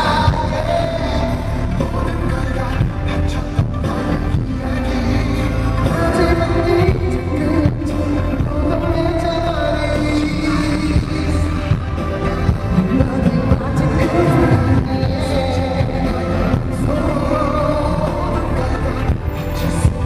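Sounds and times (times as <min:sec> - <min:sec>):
man singing lead vocal: 0:00.0 - 0:20.0
pop backing track with heavy bass: 0:00.0 - 0:20.0.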